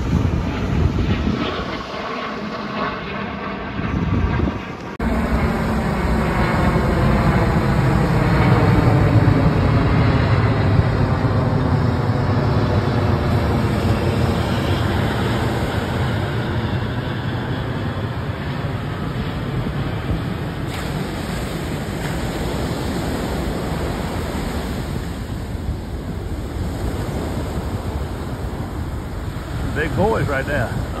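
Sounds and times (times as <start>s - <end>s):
jet flying overhead: 0.0s - 31.0s.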